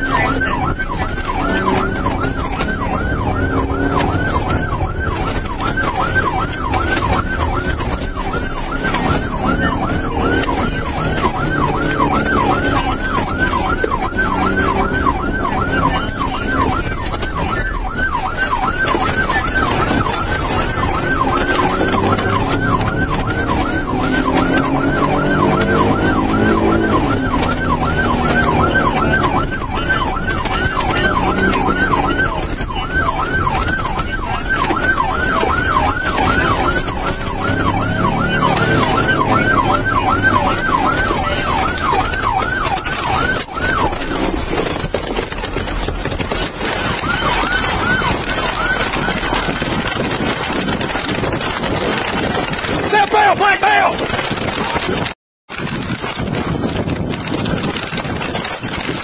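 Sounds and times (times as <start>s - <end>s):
car engine accelerating: 0.0s - 52.9s
police siren yelping: 0.0s - 55.2s.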